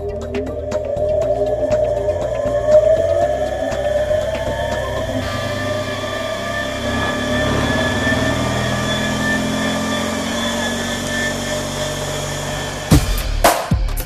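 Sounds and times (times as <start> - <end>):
steady high tones: 0.0 - 13.4.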